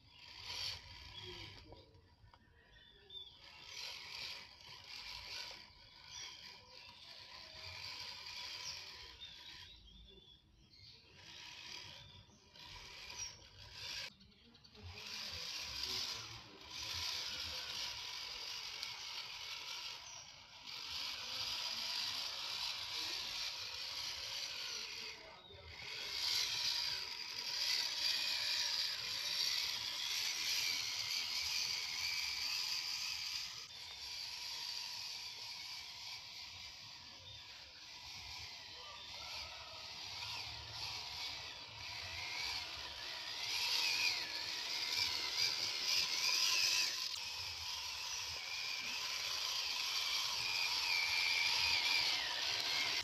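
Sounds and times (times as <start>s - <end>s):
toy car electric motor whirring: 0.0s - 53.0s.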